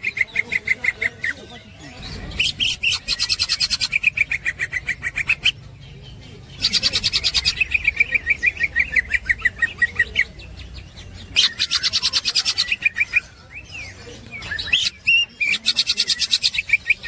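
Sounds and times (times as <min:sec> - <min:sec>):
bird rapid chatter: 0:00.0 - 0:17.0.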